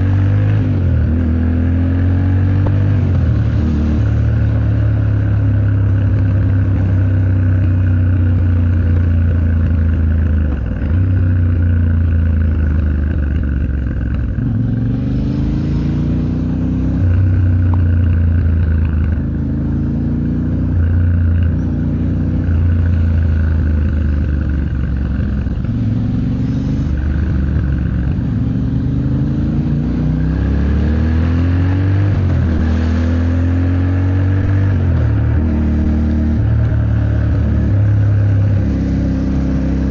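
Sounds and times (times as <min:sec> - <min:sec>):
motorcycle engine accelerating: 0:00.0 - 0:39.9
road and wind noise: 0:00.0 - 0:39.9.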